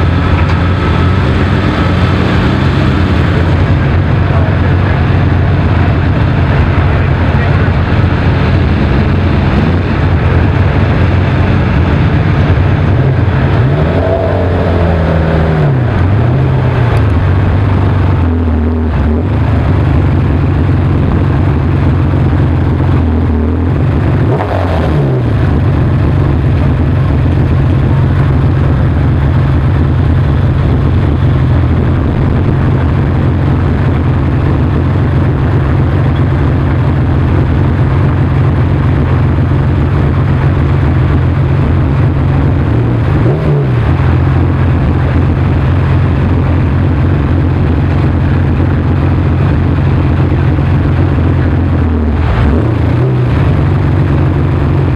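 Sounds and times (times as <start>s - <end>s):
car engine idling: 0.0s - 54.9s
engine revving: 0.0s - 54.9s.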